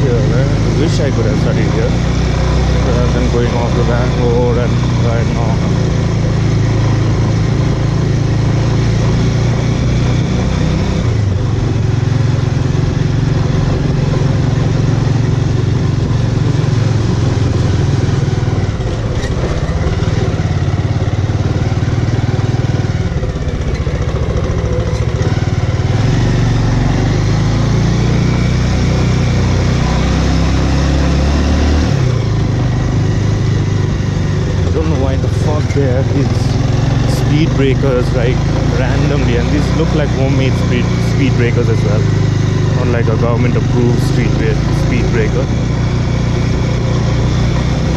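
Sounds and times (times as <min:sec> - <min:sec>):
motorcycle engine running: 0:00.0 - 0:47.9
road and wind noise: 0:00.0 - 0:47.9.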